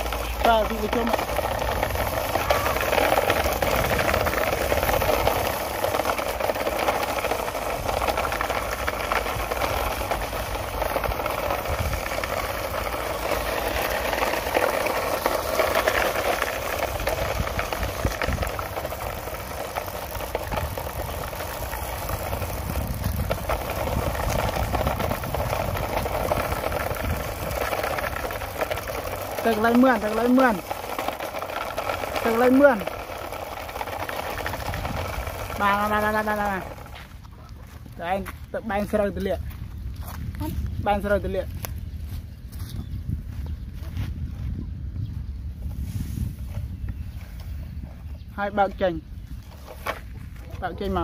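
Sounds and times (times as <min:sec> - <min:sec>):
rc car motor and gears buzzing: 0:00.0 - 0:42.1.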